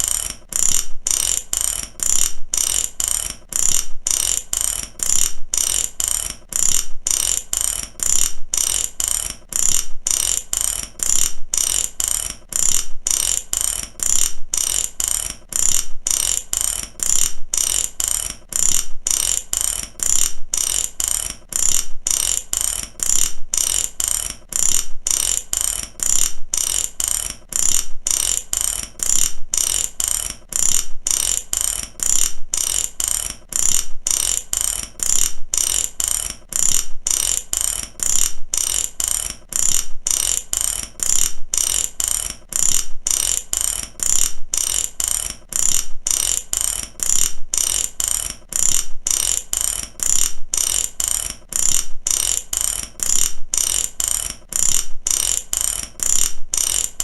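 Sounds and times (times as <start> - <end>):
ratchet wrench clicking: 0.0 - 57.0.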